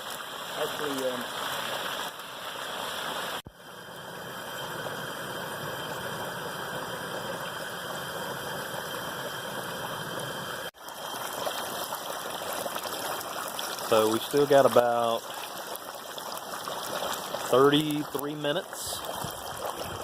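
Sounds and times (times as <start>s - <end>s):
hot oil bubbling and sizzling: 0.0s - 20.0s.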